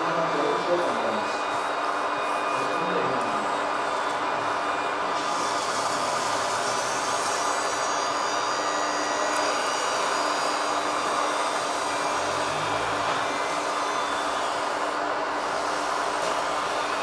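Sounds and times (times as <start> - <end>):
electric motors whirring: 0.0 - 17.0.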